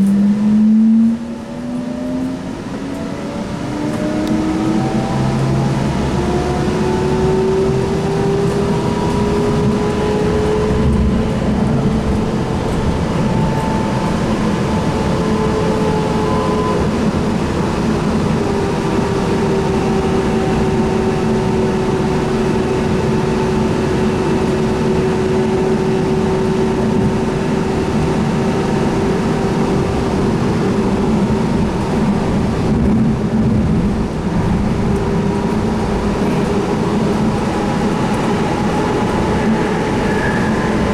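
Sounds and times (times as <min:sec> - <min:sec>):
traction motor whine: 0:00.0 - 0:40.9
wheels rumbling on rail: 0:00.0 - 0:40.9.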